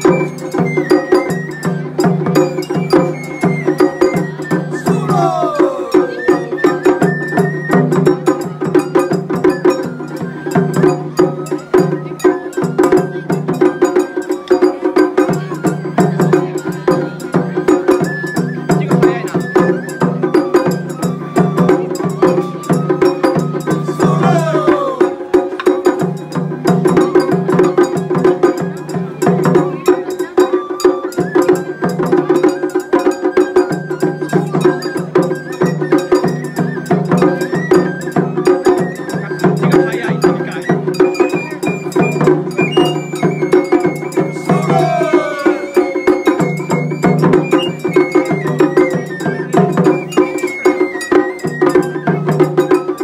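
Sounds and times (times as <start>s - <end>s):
high flute melody: 0.0s - 53.0s
taiko drums: 0.0s - 53.0s.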